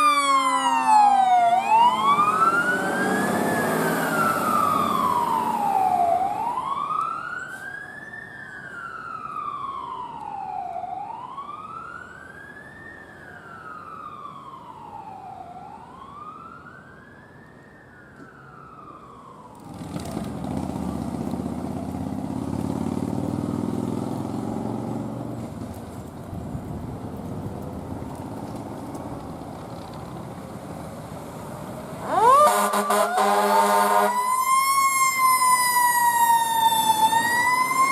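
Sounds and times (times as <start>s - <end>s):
emergency vehicle siren wailing: 0.0s - 37.9s
rush of traffic or wind: 0.0s - 37.9s.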